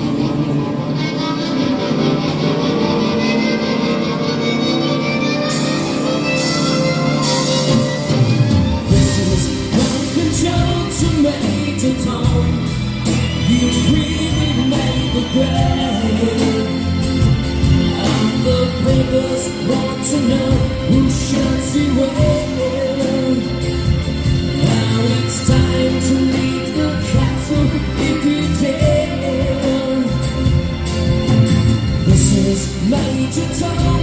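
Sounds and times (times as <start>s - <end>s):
live rock band playing: 0.0s - 34.0s
person singing: 0.0s - 34.0s.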